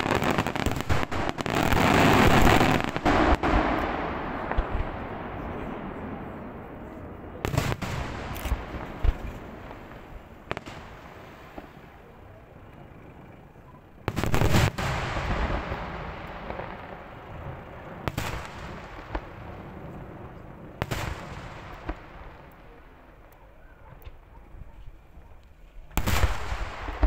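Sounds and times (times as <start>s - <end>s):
fireworks bangs echoing: 0.0s - 12.0s, 14.0s - 23.1s, 25.9s - 27.0s.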